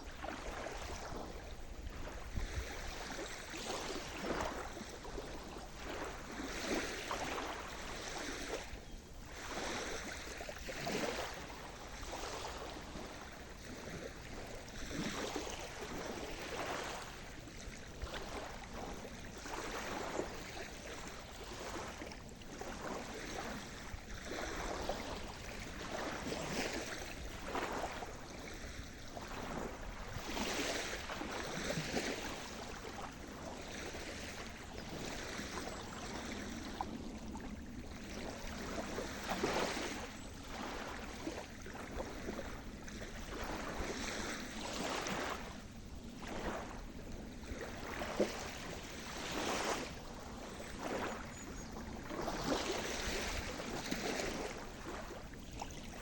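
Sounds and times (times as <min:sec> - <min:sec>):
low rush of water: 0:00.0 - 0:56.0
waves breaking on shore: 0:00.0 - 0:56.0.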